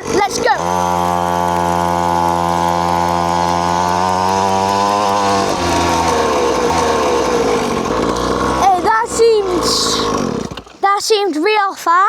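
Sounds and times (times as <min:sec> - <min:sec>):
dirt bike two-stroke engine revving: 0:00.0 - 0:11.2.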